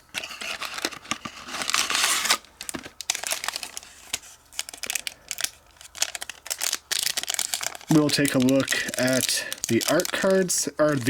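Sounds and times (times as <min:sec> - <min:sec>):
packaging wrapper rustling: 0:00.0 - 0:11.0.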